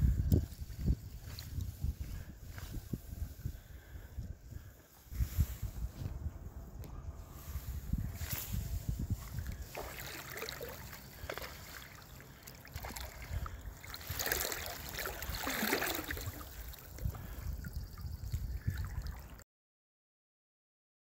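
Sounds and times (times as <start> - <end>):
wind rumbling on microphone: 0.0 - 19.4
creek water lapping and trickling: 0.1 - 5.1, 7.3 - 19.4.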